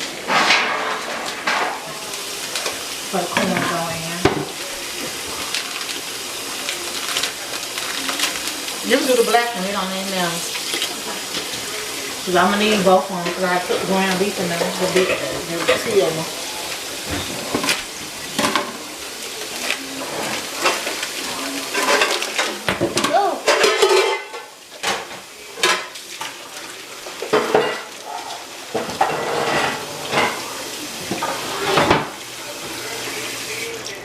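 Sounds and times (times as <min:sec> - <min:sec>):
pots and pans clattering: 0:00.0 - 0:32.9
food sizzling in a frying pan: 0:00.0 - 0:34.0.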